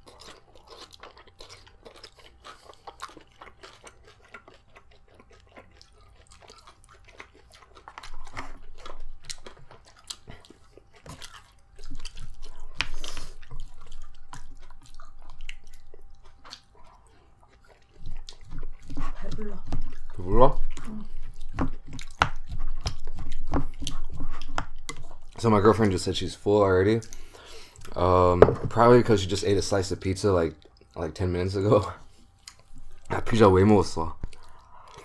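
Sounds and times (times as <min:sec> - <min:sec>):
chewing and crunching: 0:00.0 - 0:35.0.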